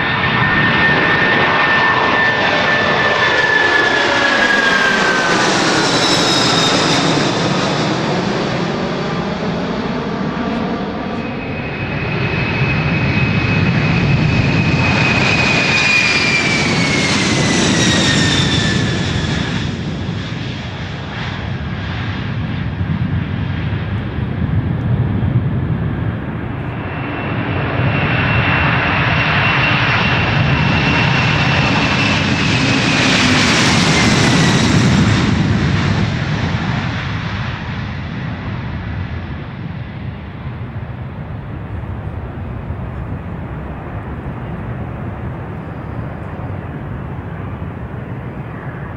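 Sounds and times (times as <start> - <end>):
high jet whine: 0.0 - 48.9
jet engines roaring past: 0.0 - 48.9.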